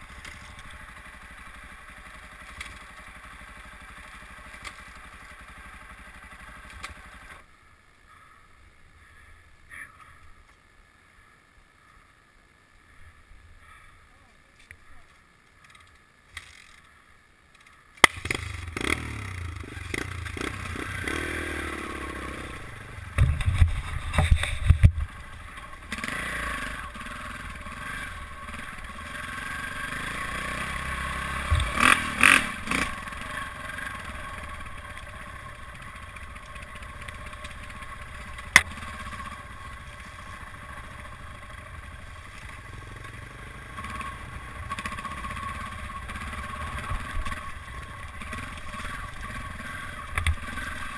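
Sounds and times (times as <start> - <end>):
dirt bike engine running: 0.0 - 10.0, 18.0 - 50.9.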